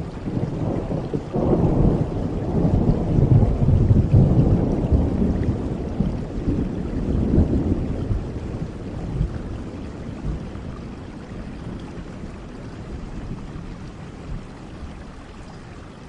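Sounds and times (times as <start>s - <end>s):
thunder rumbling: 0.0s - 15.0s
steady rain: 0.0s - 16.0s.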